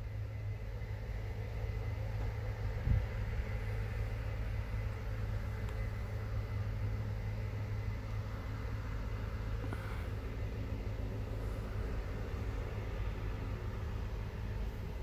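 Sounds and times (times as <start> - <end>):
combine harvester drone: 0.0 - 15.0.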